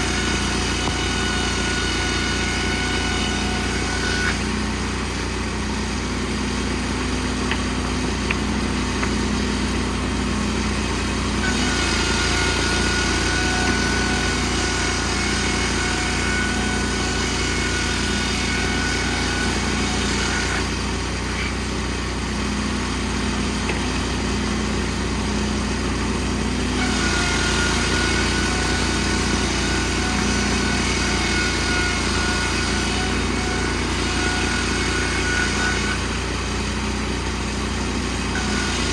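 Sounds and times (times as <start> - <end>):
band sawmill sawing log: 0.0 - 38.9.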